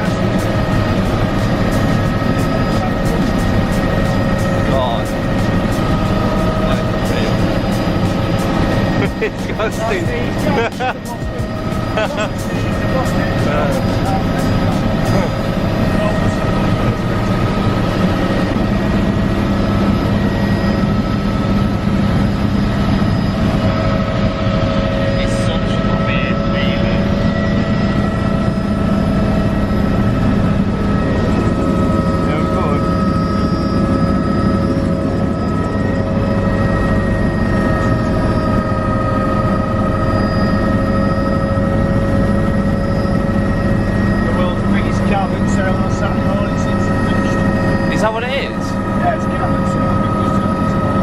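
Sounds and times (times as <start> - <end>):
helicopter engine and rotor drone: 0.0 - 51.0
turbine whine: 0.0 - 51.0.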